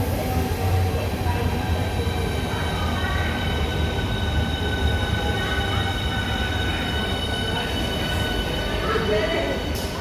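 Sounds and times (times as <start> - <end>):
electric train whining and humming: 0.0 - 10.0.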